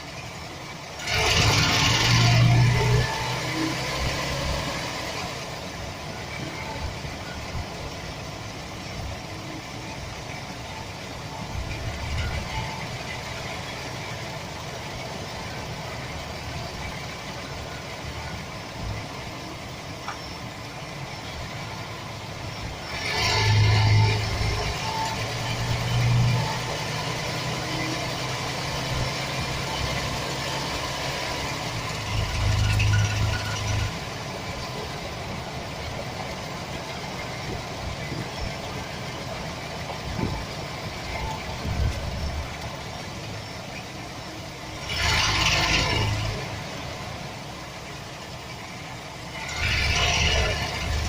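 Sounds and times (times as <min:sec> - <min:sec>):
van engine idling: 0:00.0 - 0:51.0.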